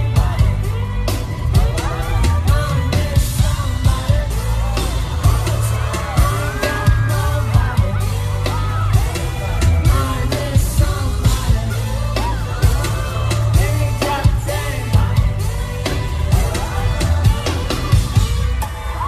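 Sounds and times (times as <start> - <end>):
audience yells and whoops: 0.0 - 19.0
heavy bass line: 0.0 - 19.0
person singing: 0.0 - 19.0.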